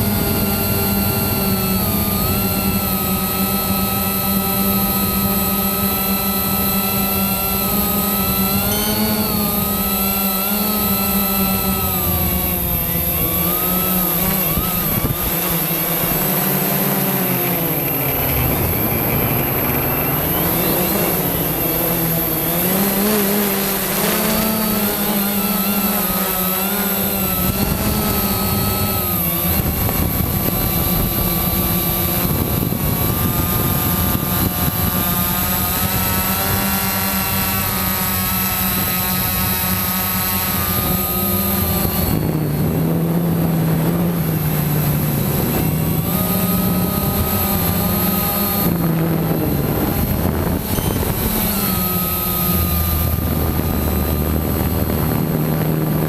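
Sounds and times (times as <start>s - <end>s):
drone propellers buzzing: 0.0s - 56.0s
very high whine: 0.0s - 56.0s.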